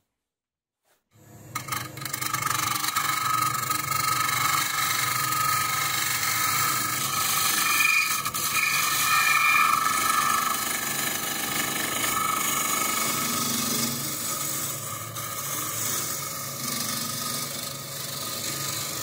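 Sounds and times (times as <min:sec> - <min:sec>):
lathe motor whine: 0:01.6 - 0:19.0.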